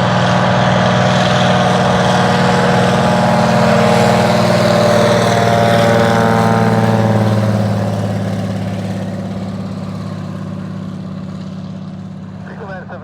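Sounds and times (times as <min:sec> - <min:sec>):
piston engine and propeller droning: 0:00.0 - 0:13.0.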